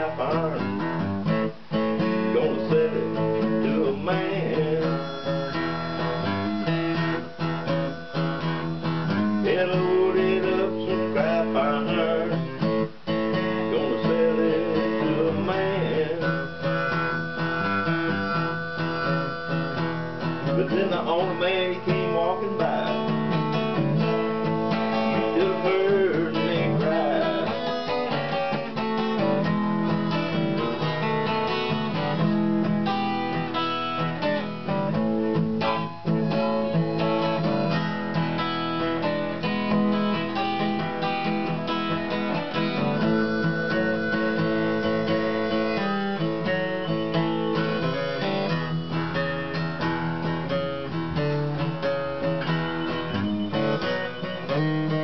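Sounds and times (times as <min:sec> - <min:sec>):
acoustic guitar blues: 0:00.0 - 0:55.0.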